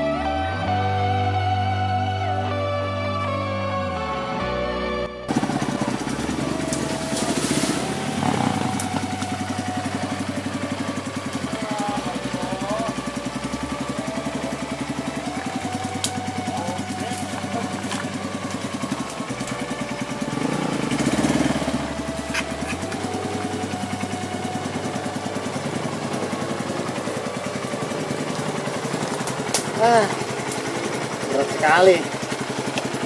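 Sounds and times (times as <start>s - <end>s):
dirt bike engine idling: 5.3s - 33.0s.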